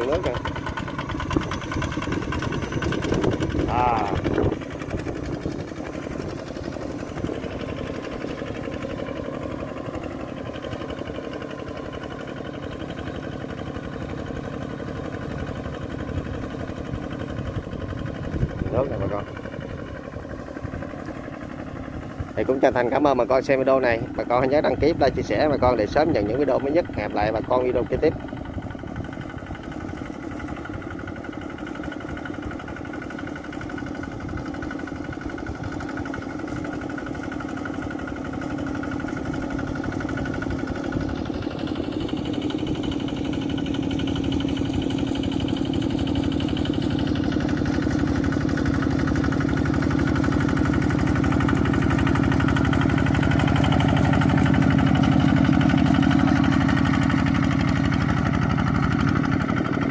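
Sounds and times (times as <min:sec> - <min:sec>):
farm machine engine running: 0:00.0 - 0:59.9.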